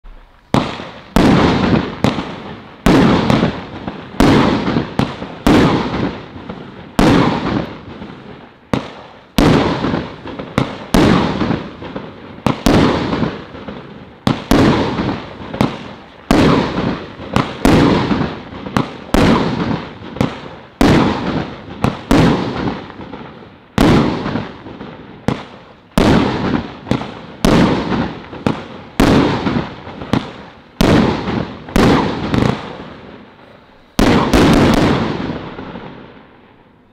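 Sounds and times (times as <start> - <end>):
firework cake bangs: 0.0 - 8.1, 8.7 - 33.0, 33.9 - 35.8.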